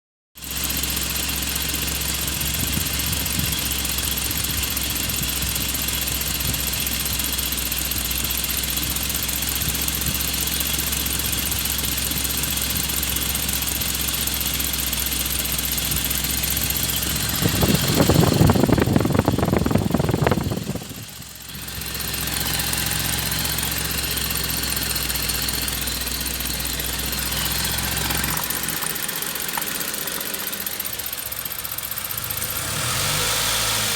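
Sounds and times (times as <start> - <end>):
engine idling: 0.4 - 33.9.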